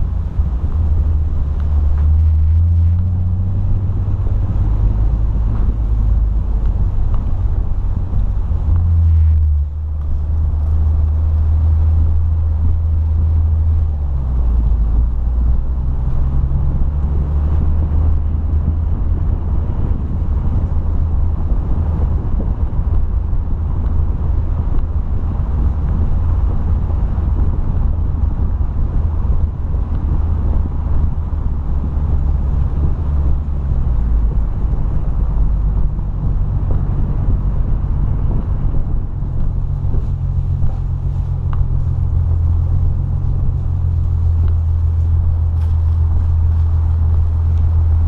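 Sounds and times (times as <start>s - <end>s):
car engine running: 0.0s - 48.0s
tyre and road noise: 0.0s - 48.0s.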